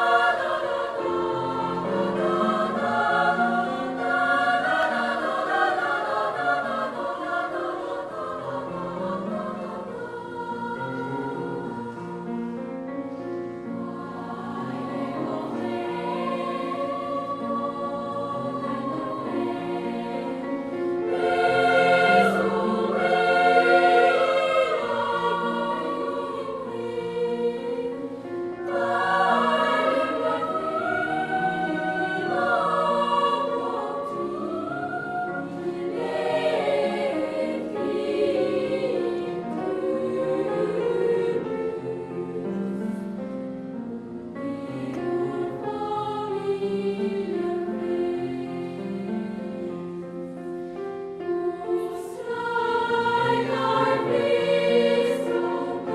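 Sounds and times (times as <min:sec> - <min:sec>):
choir singing slow chords: 0:00.0 - 0:55.9.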